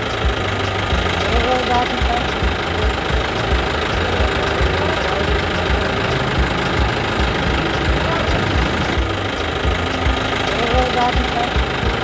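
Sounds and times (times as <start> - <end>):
engine running with uneven thumping: 0.0 - 12.0.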